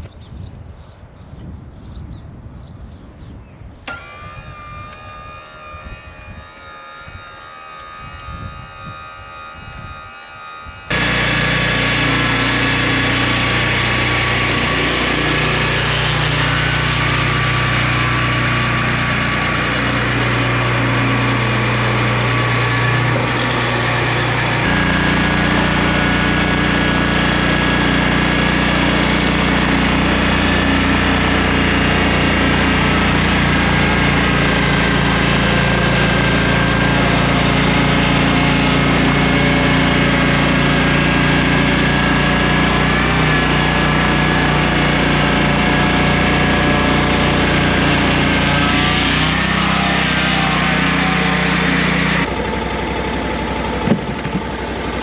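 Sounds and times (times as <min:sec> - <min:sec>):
sawmill engine running: 0:03.8 - 0:55.0.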